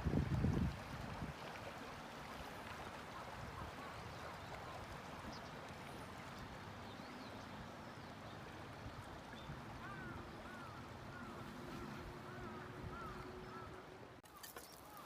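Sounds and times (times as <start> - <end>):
stream flowing over rocks: 0.0 - 12.1.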